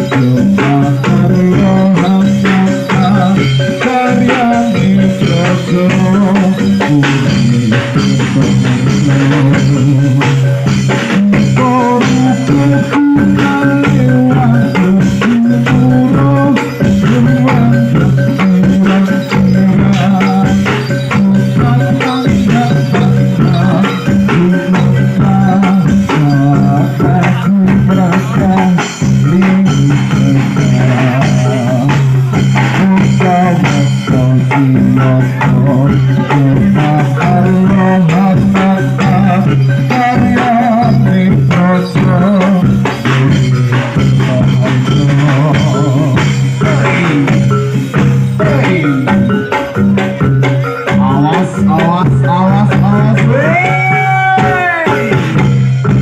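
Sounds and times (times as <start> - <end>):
held low melodic notes: 0.0 - 53.6
drums: 0.0 - 56.0
gamelan-style instruments: 0.0 - 56.0.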